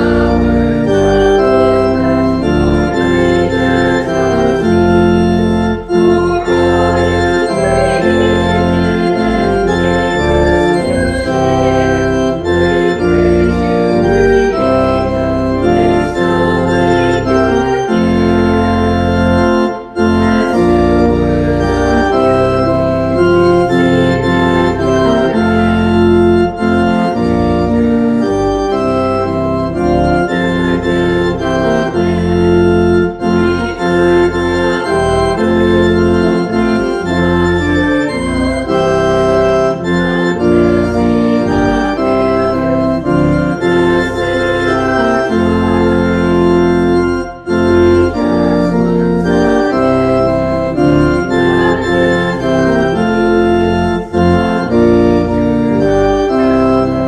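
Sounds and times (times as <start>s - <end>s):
church organ playing hymn: 0.0s - 57.0s.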